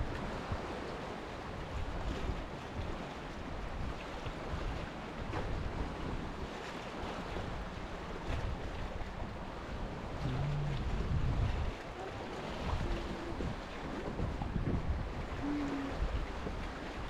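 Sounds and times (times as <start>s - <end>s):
small waves lapping: 0.0s - 17.0s
wind buffeting microphone: 0.0s - 17.0s.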